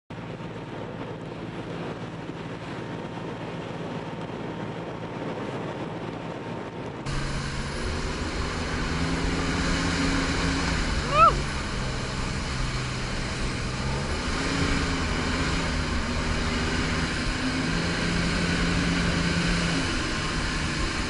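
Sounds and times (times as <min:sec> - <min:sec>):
engine droning: 0:00.1 - 0:21.0
wind noise: 0:00.1 - 0:21.0.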